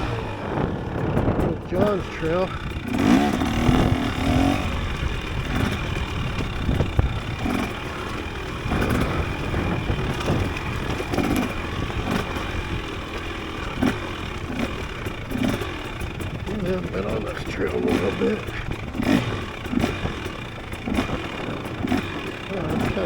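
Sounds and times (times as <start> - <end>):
wind noise: 0.0 - 13.1, 15.9 - 23.0
dirt bike engine revving: 0.0 - 23.0.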